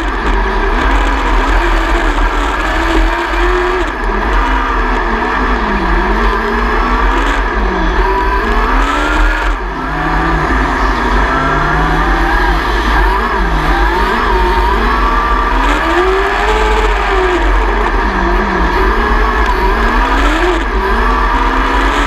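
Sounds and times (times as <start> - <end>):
racing motorcycle engine: 0.0 - 22.0.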